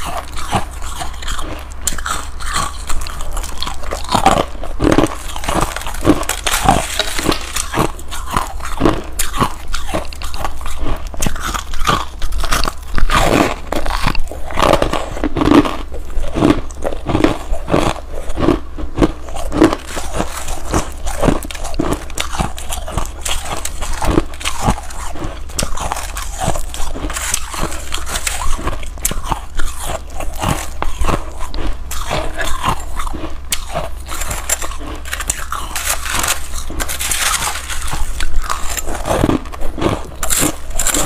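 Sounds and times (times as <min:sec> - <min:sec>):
chewing crunchy ice: 0:00.0 - 0:41.0.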